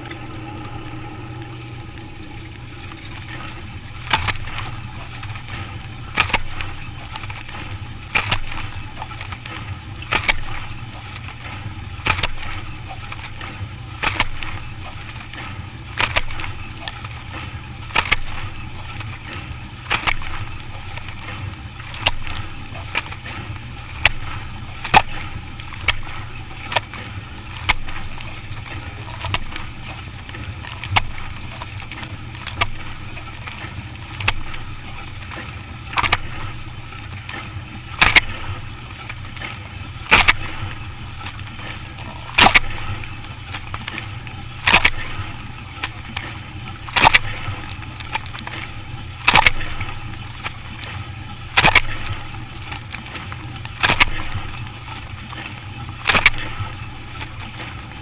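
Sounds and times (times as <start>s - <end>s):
dishwasher humming: 0.0s - 58.0s
water splashing and clattering: 0.0s - 58.0s.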